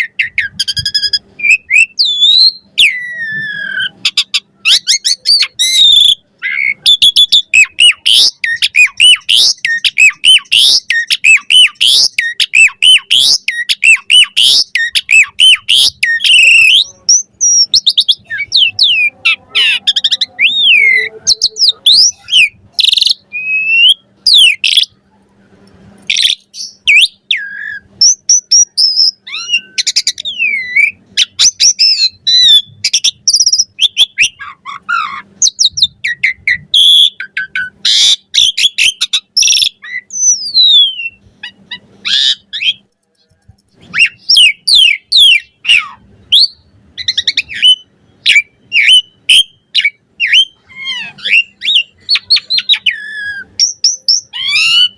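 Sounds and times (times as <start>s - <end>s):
starling singing: 0.0s - 25.0s, 26.0s - 54.9s.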